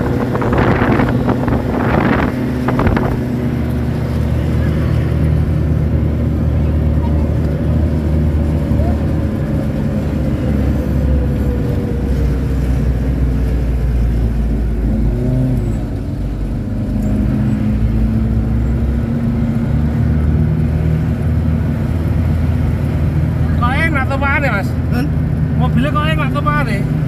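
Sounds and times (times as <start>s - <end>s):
jeep engine droning: 0.0s - 27.0s.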